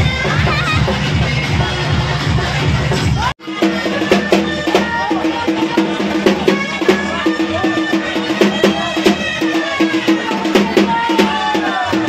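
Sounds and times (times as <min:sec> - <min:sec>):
loud dance music over loudspeakers: 0:00.0 - 0:12.0.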